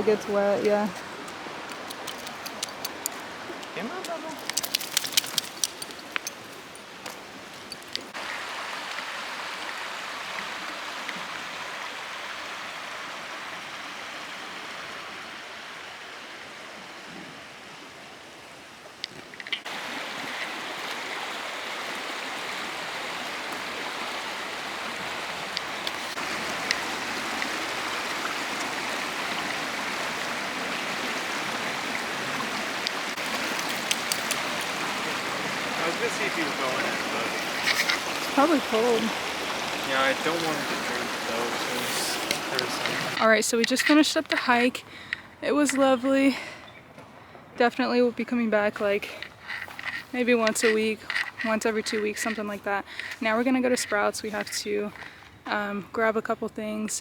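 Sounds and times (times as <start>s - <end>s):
creek water running over rock: 0.0s - 46.4s, 47.6s - 56.1s.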